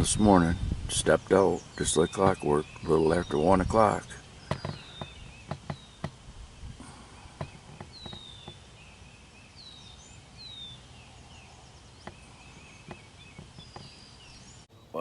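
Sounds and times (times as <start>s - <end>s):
small birds whistling calls: 0.0s - 15.0s.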